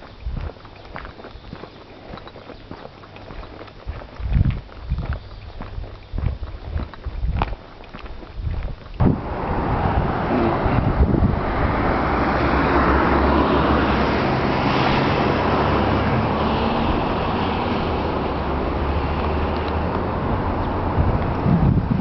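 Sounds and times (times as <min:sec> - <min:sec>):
wind on microphone: 0:00.0 - 0:00.6, 0:03.3 - 0:22.0
vehicle engine hum: 0:00.0 - 0:22.0.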